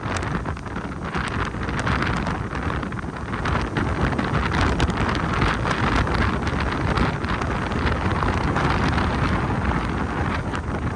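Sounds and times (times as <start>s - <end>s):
strong wind on microphone: 0.0s - 10.9s.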